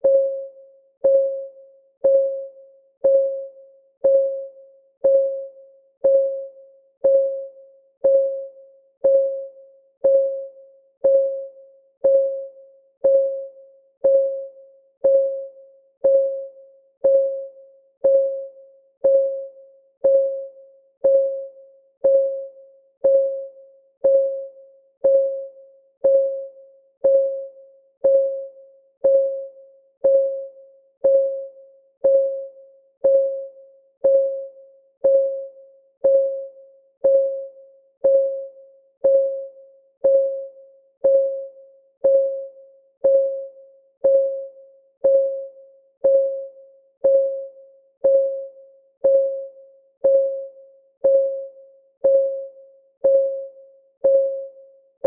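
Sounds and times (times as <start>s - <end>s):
timer clock ticking: 1.0s - 54.6s.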